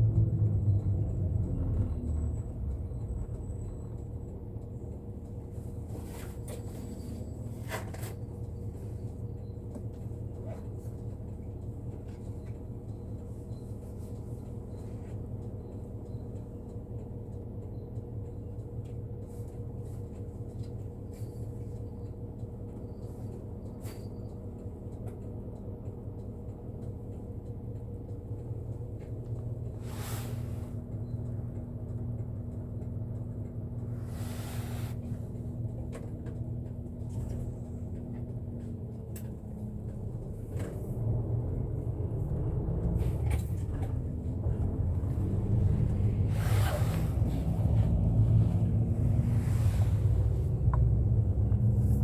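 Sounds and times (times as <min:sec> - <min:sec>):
bus engine and road noise: 0:00.0 - 0:52.0.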